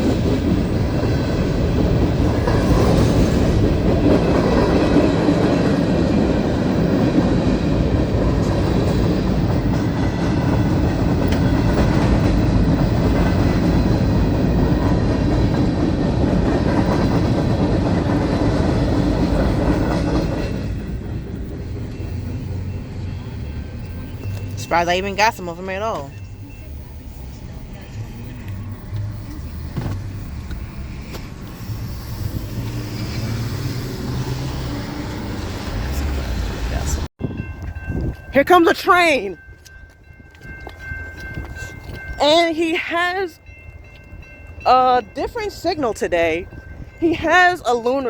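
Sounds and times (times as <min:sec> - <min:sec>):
freight train rumbling past: 0:00.0 - 0:48.0
wheels clacking over rail joints: 0:00.0 - 0:48.0.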